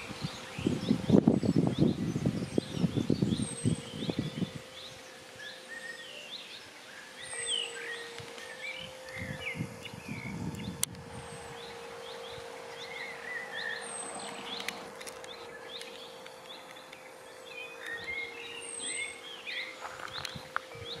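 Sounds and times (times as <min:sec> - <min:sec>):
faint steady hum: 0:00.0 - 0:21.0
songbirds chirping: 0:00.0 - 0:21.0.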